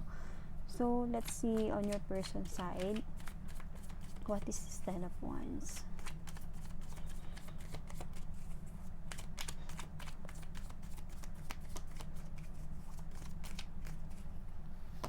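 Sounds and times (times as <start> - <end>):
steady low hum: 0.0 - 15.0
cards being shuffled: 1.2 - 14.3.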